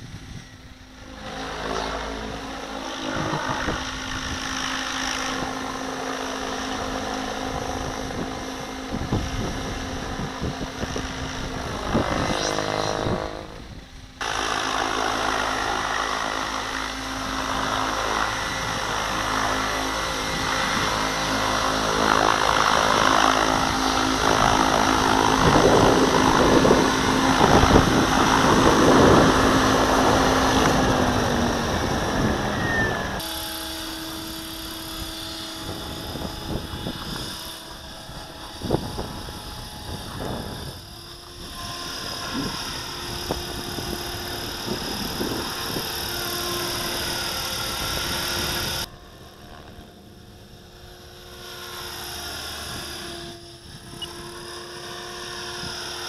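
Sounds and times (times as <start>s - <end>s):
model helicopter rotor whine: 0.0s - 56.0s.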